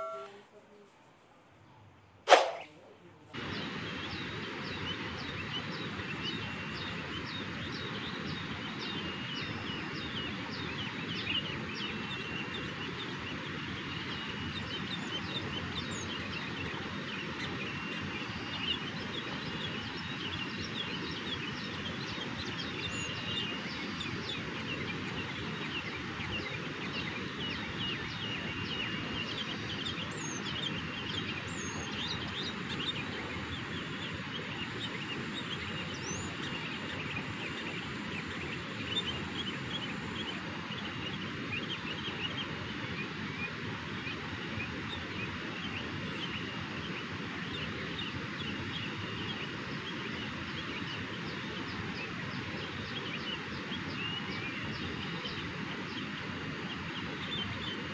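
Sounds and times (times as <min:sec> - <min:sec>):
birds chirping: 0:00.0 - 0:01.0, 0:02.0 - 0:57.9
steady background hiss: 0:00.0 - 0:57.9.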